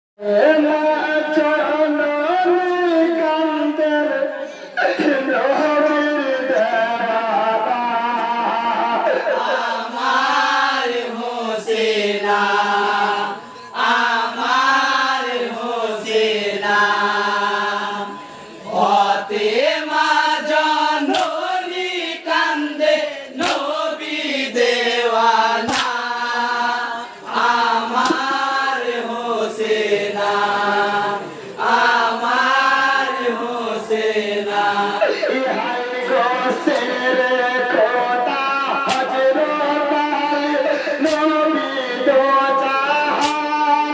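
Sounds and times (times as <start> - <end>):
man singing a lament through pa: 0.2 - 43.9.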